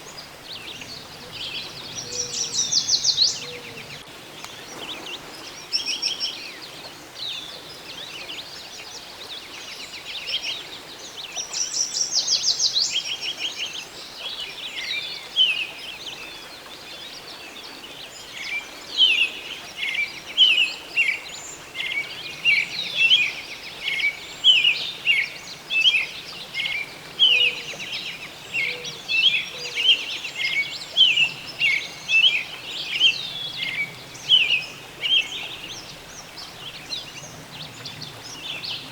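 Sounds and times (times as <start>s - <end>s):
faint steady hiss: 0.0s - 38.9s
songbirds singing and calling: 0.0s - 38.9s.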